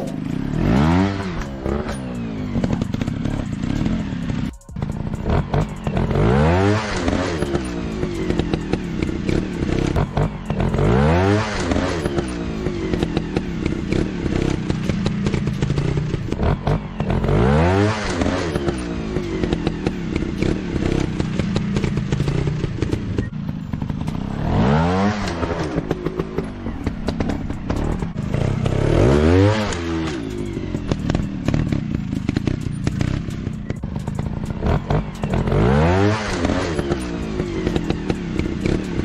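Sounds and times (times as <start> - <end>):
dirt bike engine revving: 0.0 - 39.0
rattling clatter: 0.0 - 39.0.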